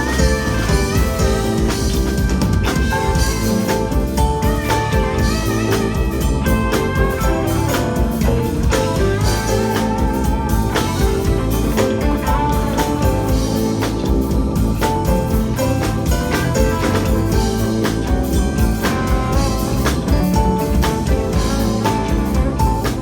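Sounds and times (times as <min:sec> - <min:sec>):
blues guitar: 0:00.0 - 0:23.0
drum kit: 0:00.0 - 0:23.0.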